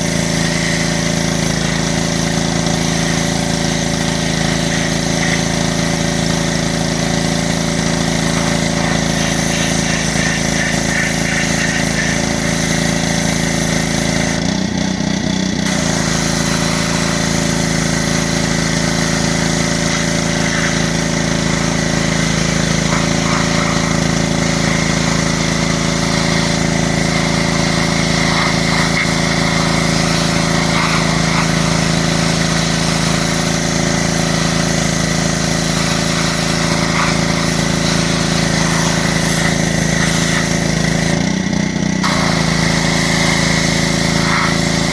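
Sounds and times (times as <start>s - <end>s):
water spray hiss: 0.0s - 14.4s, 15.7s - 41.2s, 42.0s - 44.9s
pressure washer engine: 0.0s - 44.9s.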